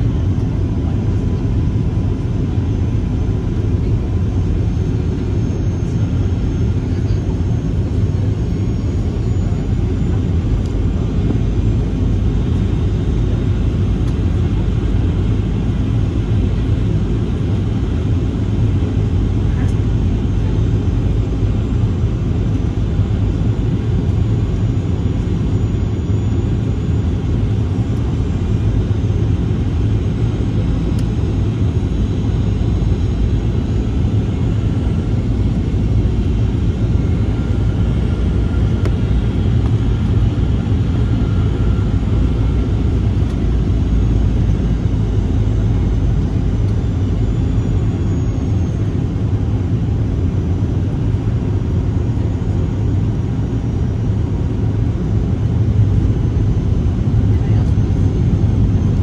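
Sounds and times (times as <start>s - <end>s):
faint engine whine: 0.0s - 59.0s
jet engines rumbling: 0.0s - 59.0s.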